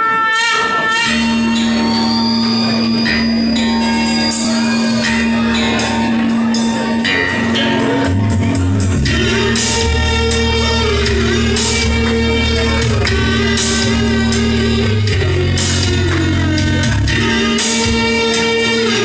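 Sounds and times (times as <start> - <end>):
bass line: 1.0 - 19.0
light percussion beat: 1.8 - 19.0.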